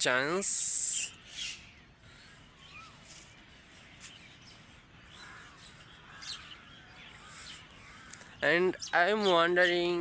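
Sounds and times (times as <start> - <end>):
birds chirping faintly: 0.0 - 10.0.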